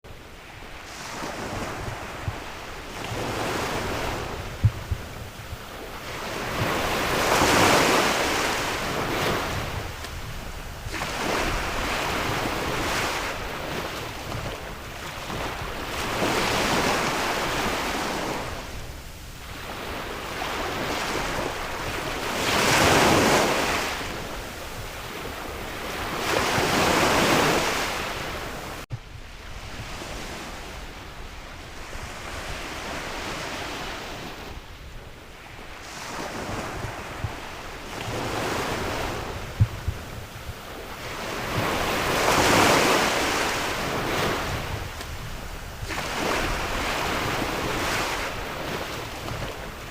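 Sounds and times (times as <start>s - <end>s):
sea waves washing ashore: 0.1s - 49.9s
wind gusts buffeting microphone: 0.1s - 49.9s.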